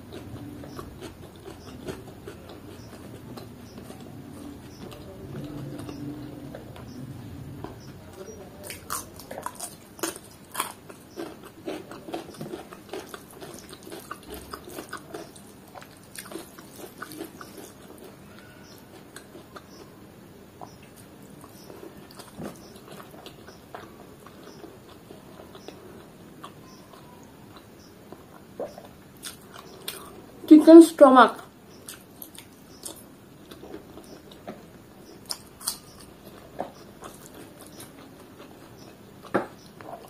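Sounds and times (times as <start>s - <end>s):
crunchy chewing of cucumber: 0.0s - 30.5s, 31.4s - 40.0s
soft chewing: 0.0s - 30.5s, 31.4s - 40.0s.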